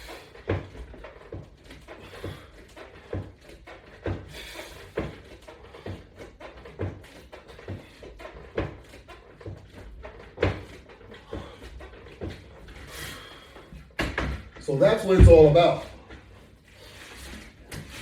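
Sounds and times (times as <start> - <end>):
exercise equipment knocking: 0.0 - 16.3.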